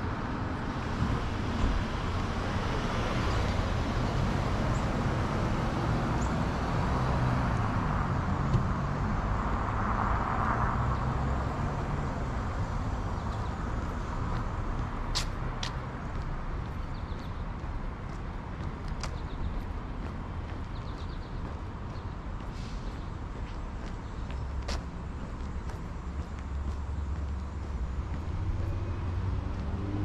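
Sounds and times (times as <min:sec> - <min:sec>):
cars driving past: 0:00.0 - 0:30.0
vehicle passing by: 0:01.0 - 0:17.3, 0:18.0 - 0:30.0.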